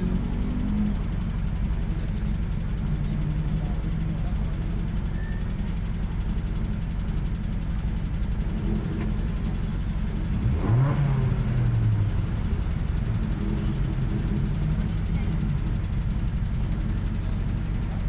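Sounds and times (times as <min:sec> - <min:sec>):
rally car engine idling and revving: 0:00.0 - 0:18.0.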